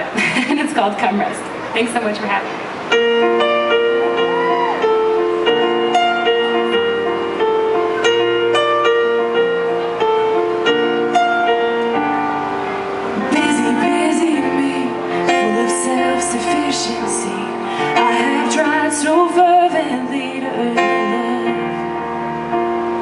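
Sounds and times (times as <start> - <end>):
slow piano ballad: 2.7 - 23.0.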